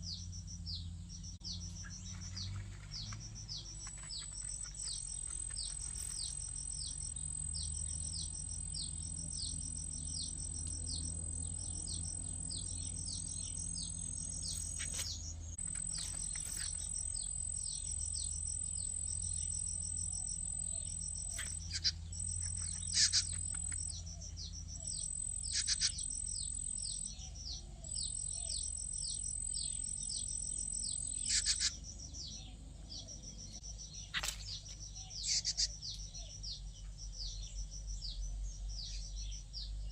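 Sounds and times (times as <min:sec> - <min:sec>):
bird chirping: 0:00.0 - 0:39.9
high insect drone: 0:00.0 - 0:39.9.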